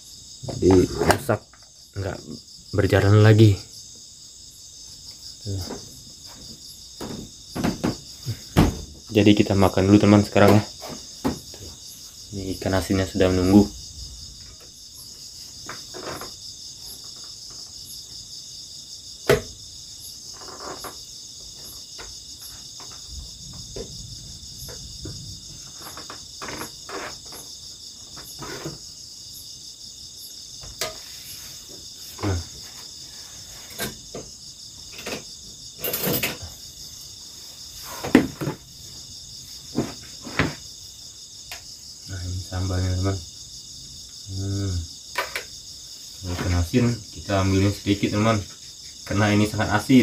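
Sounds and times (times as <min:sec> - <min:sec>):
crickets chirping: 0:00.0 - 0:50.0.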